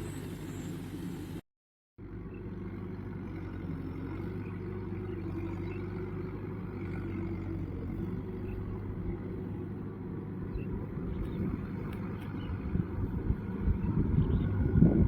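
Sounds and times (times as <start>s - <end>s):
tractor diesel engine drone: 0.0s - 1.4s, 2.0s - 15.0s.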